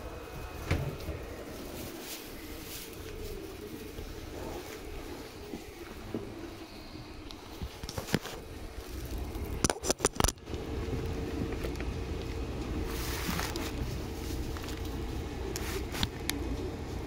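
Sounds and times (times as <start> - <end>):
steady electric hum: 0.0 - 17.0
train car rumbling in motion: 0.0 - 17.0.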